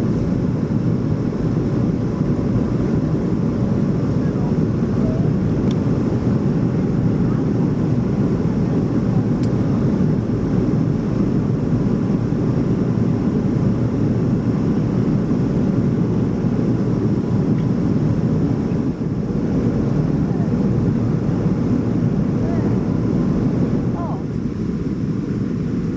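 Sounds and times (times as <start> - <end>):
jet airliner cabin noise: 0.0 - 25.9.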